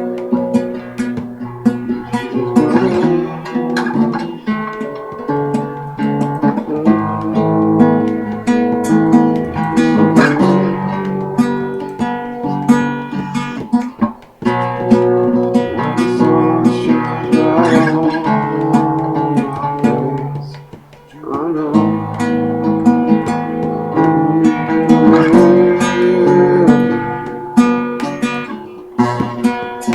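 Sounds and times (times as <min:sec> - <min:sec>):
acoustic guitar strummed and picked: 0:00.0 - 0:29.9.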